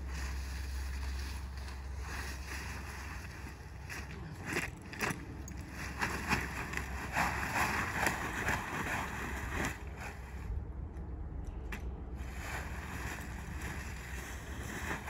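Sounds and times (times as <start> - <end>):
tarp rustling and crackling: 0.0 - 10.6, 12.2 - 15.0.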